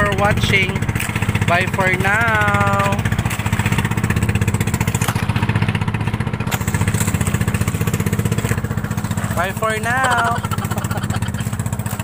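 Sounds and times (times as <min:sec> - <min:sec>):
boat engine puttering: 0:00.0 - 0:12.0.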